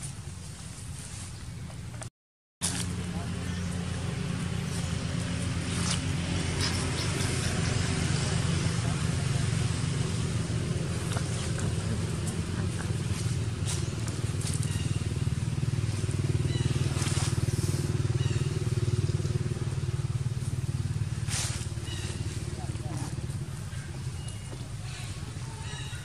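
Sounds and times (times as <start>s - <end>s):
motor engine humming: 1.4s - 26.0s.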